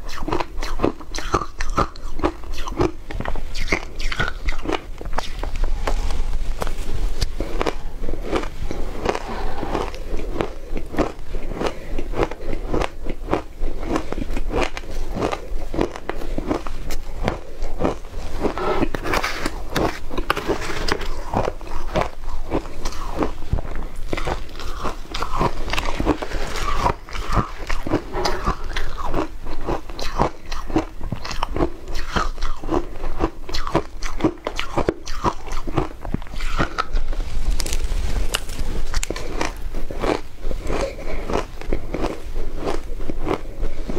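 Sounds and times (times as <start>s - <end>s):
crunching shaved ice: 7.2s - 43.9s.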